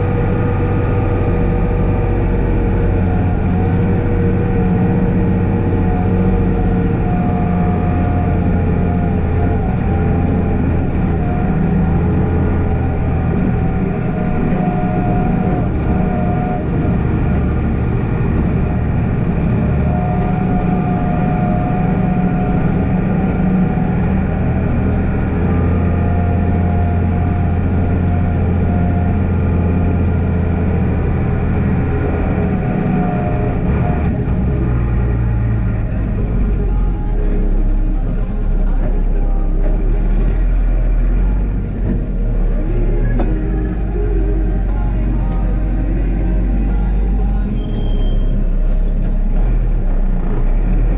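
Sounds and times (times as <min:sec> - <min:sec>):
diesel engine running under load: 0:00.0 - 0:50.9
high whine: 0:00.0 - 0:50.9
snowplow pushing through snow: 0:00.0 - 0:50.9.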